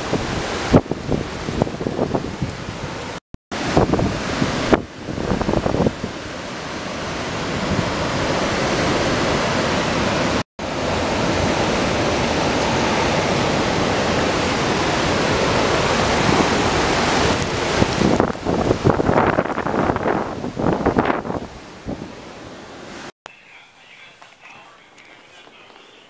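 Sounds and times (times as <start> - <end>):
wind gusts buffeting microphone: 0.0 - 23.1
hurricane wind and driving rain: 0.0 - 23.6.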